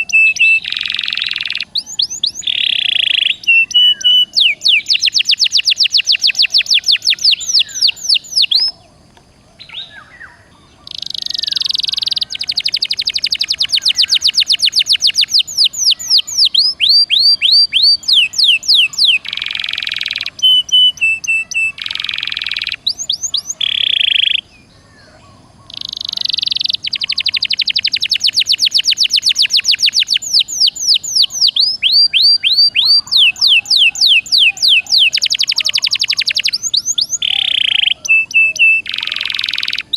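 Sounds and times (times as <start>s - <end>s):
canary singing trills: 0.0s - 9.0s, 9.6s - 39.9s.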